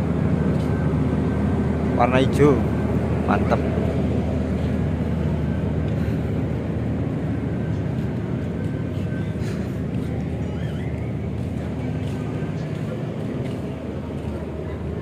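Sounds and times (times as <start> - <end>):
generator engine drone: 0.0 - 15.0.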